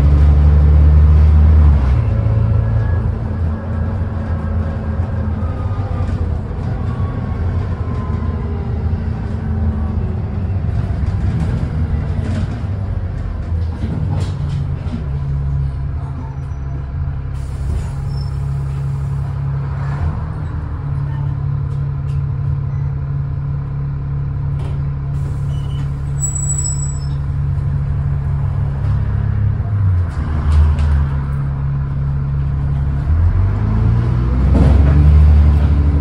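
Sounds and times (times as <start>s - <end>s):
bus diesel engine: 0.0s - 36.0s.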